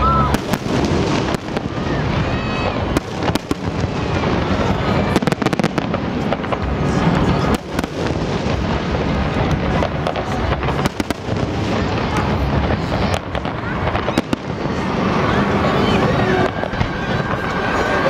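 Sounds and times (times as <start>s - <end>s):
fireworks cracking and banging: 0.0s - 18.0s.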